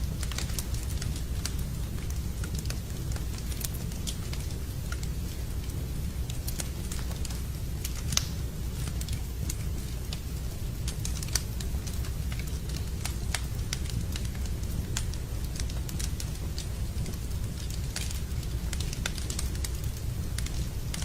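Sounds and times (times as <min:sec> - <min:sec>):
campfire crackling: 0:00.0 - 0:21.0
fire popping: 0:00.0 - 0:21.0.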